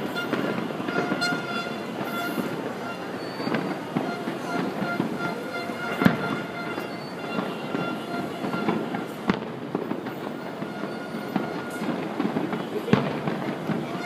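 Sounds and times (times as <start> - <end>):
fireworks bangs: 0.0 - 14.0
street traffic din: 0.0 - 14.0.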